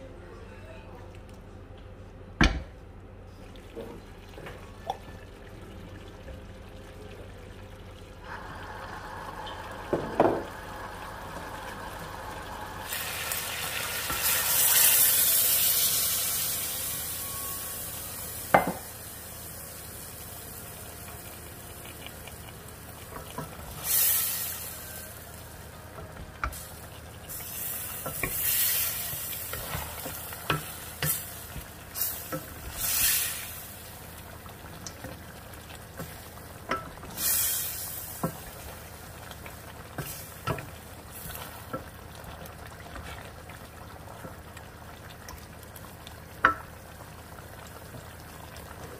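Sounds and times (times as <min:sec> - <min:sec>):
meat sizzling in pot: 0:08.2 - 0:48.9.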